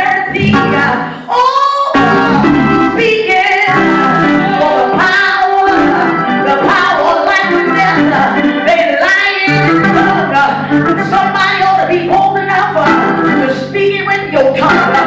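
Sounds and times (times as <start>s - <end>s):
church singing with instruments: 0.0s - 15.0s.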